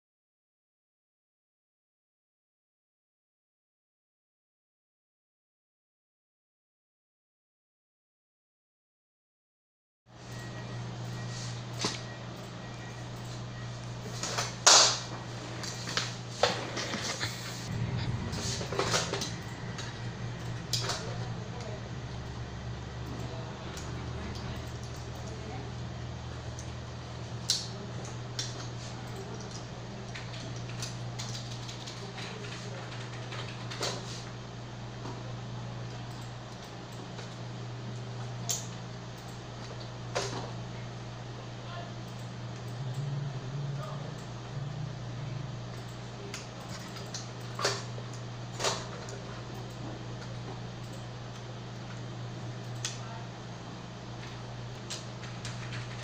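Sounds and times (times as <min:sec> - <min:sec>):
steady low hum: 0:10.1 - 0:56.0.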